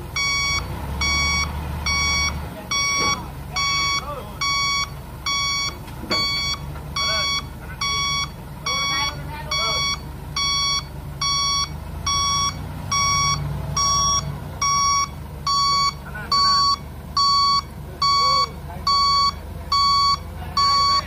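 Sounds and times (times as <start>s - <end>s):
diesel engine rumble: 0.0s - 21.0s
reversing alarm beeping: 0.2s - 21.0s.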